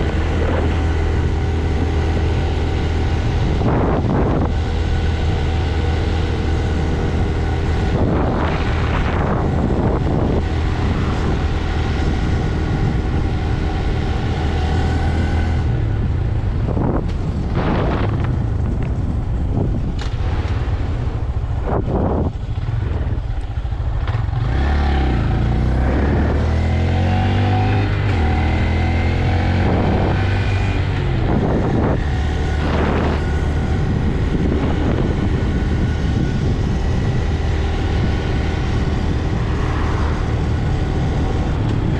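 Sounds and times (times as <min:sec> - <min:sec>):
motorcycle engine revving: 0:00.0 - 0:18.8, 0:19.9 - 0:41.9
wind noise: 0:00.0 - 0:41.9.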